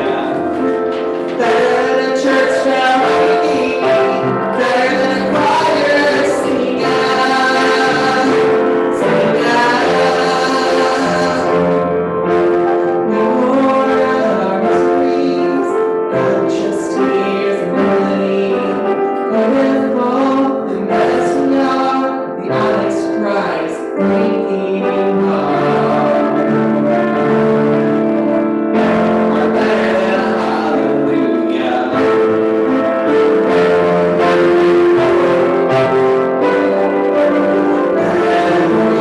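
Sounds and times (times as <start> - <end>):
music with long held chords: 0.0 - 39.0.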